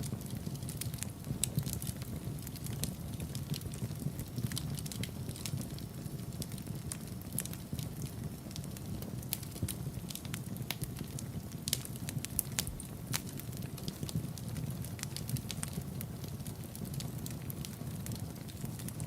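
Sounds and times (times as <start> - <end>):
low rumble of flames: 0.0 - 19.0
wood fire popping and snapping: 0.0 - 19.0.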